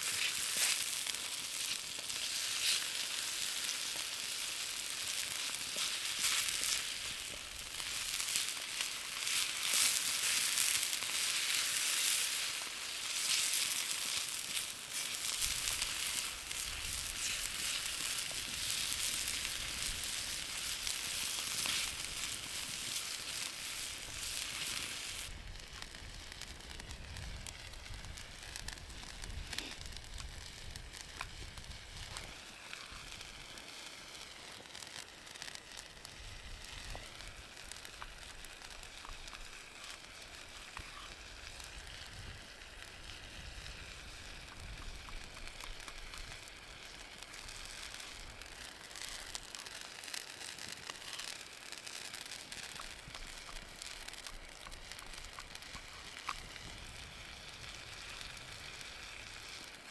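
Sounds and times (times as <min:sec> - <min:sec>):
campfire crackles: 0:00.0 - 0:59.9
food sizzling in a pan: 0:00.0 - 0:59.9.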